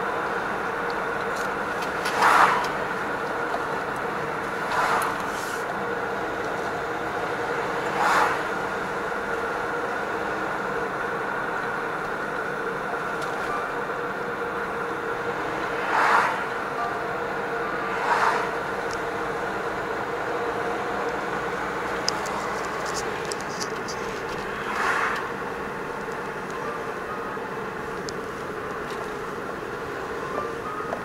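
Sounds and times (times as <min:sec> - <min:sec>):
vehicle engine and tyre noise: 0:00.0 - 0:31.0.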